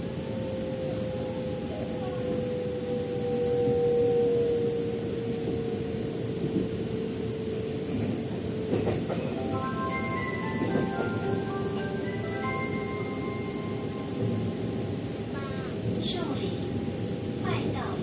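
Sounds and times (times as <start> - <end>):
metro train rumbling on rails: 0.0 - 18.0.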